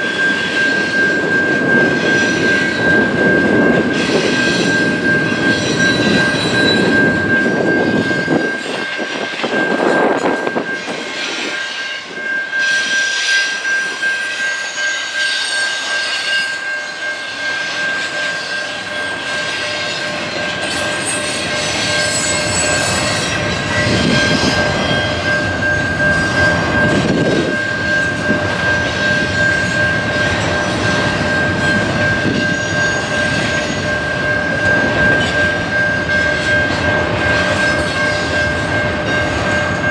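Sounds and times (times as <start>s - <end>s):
train rumbling and rattling past: 0.0s - 39.9s
high-pitched squeal: 1.6s - 39.2s.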